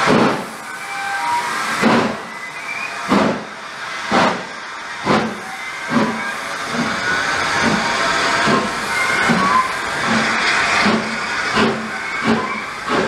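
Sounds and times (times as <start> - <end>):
steam hissing: 0.0 - 13.0
steam locomotive exhaust beats: 0.0 - 13.0.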